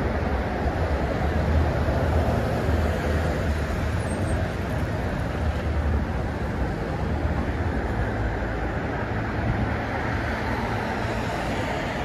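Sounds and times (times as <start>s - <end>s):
passing vehicles rushing: 0.0s - 12.0s.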